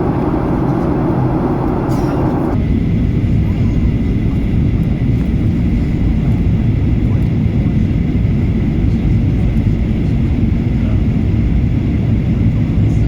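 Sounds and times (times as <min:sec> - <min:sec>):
airplane engine rumble in cabin: 0:00.0 - 0:13.0.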